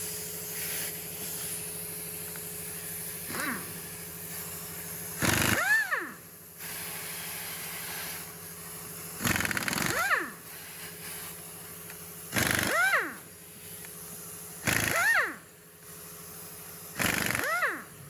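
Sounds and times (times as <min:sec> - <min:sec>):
air impact wrench bursts: 0:00.0 - 0:18.0.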